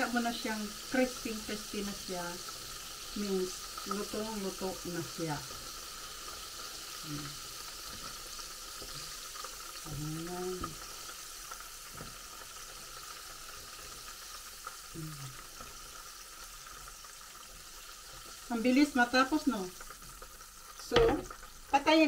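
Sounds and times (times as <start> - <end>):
oil sizzling: 0.0 - 22.0.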